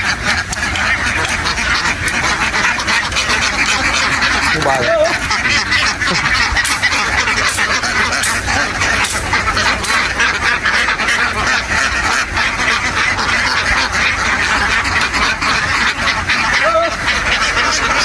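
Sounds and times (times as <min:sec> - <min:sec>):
flock of ducks quacking: 0:00.0 - 0:18.0.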